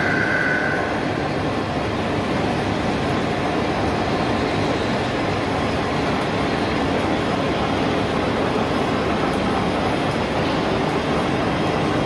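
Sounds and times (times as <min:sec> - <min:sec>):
lathe rumbling and humming: 0:00.0 - 0:12.0.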